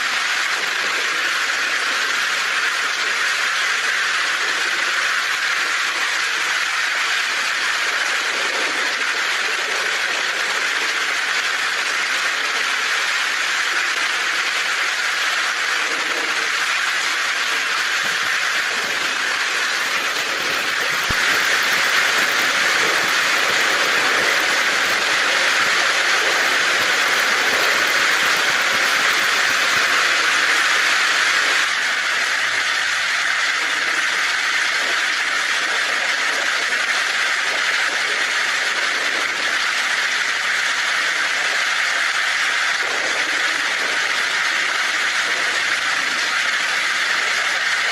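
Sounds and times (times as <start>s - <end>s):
heavy rain on a tin roof: 0.0s - 47.9s.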